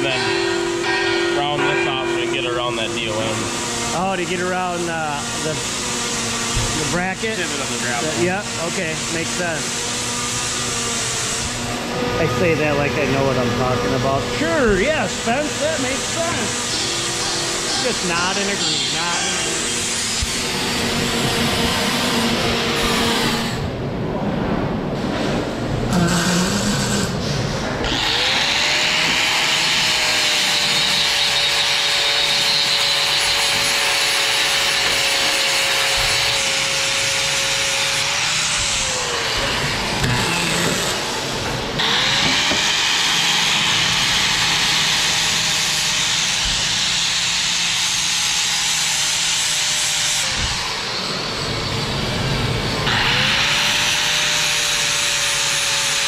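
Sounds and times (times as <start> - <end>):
angle grinder grinding steel: 0.0 - 23.6, 25.9 - 56.0.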